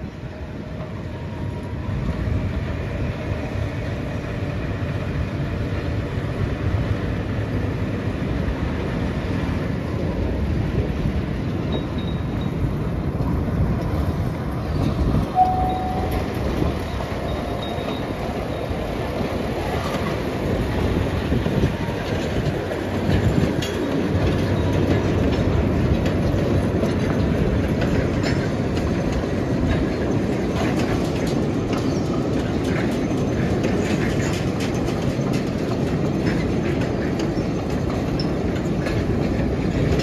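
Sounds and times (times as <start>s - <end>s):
diesel locomotive engine running: 0.0s - 40.0s
rail cars rumbling over rails: 0.0s - 40.0s.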